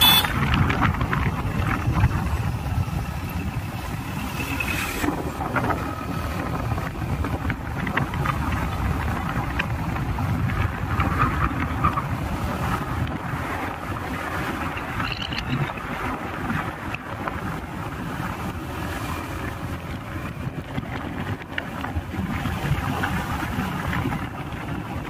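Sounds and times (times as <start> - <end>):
road vehicle rumble: 0.0 - 25.0.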